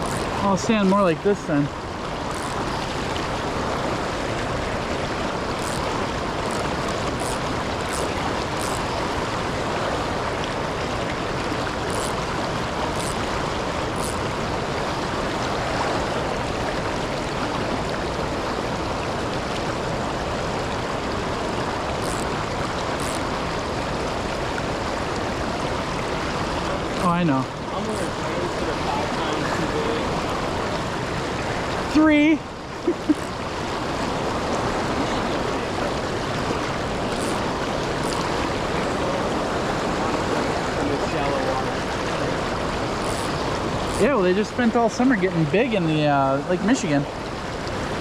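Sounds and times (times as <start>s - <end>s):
river rushing over waterfall: 0.0s - 48.0s.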